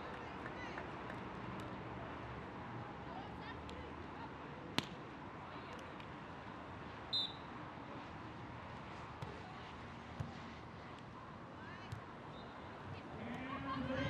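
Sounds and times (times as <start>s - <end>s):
distant crowd: 0.0s - 14.0s.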